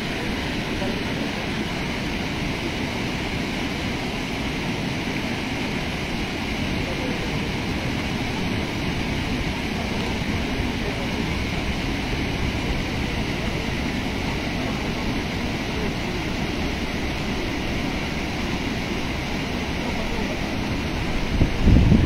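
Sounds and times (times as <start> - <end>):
water rushing over a weir: 0.0 - 22.0.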